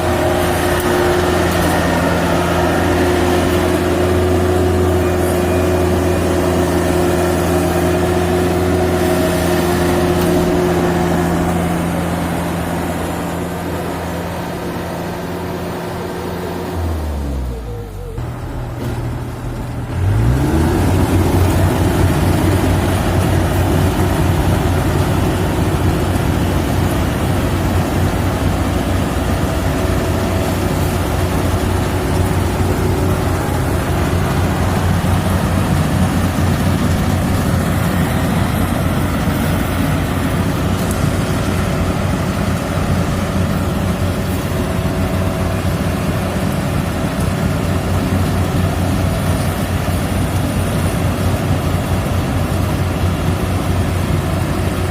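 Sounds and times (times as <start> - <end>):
diesel engine running: 0.0 - 54.9
harvesting machinery hum: 0.0 - 54.9.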